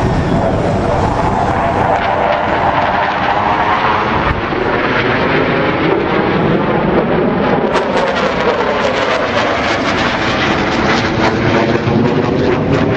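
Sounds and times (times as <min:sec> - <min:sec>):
jet engine roar: 0:00.0 - 0:12.9.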